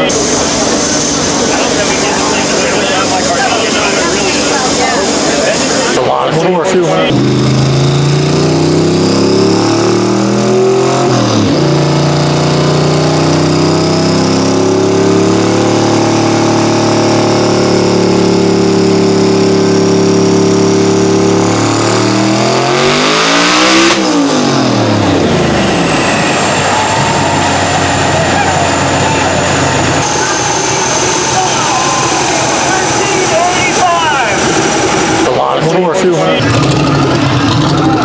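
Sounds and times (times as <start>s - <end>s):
car engine at full throttle: 0.0s - 38.0s.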